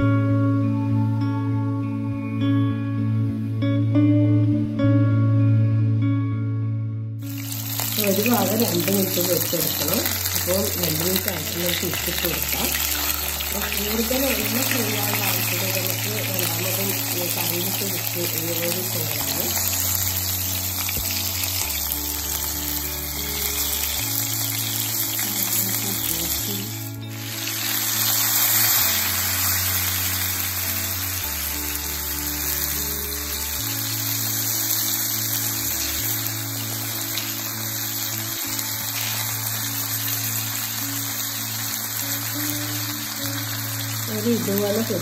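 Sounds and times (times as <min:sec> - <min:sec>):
background music with bass notes: 0:00.0 - 0:45.0
fish sizzling in hot oil: 0:07.2 - 0:45.0.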